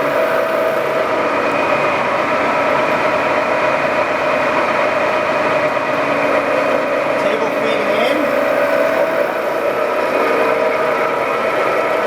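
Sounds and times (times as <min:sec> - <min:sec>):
milling machine gear whine: 0:00.0 - 0:12.0
motor hum: 0:00.0 - 0:12.0.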